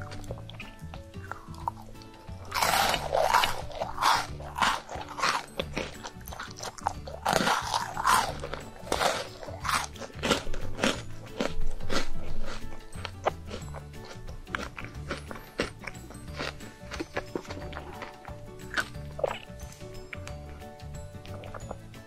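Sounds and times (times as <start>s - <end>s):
close chewing with crunchy bites: 0.0s - 22.0s
soft background music: 0.0s - 22.0s.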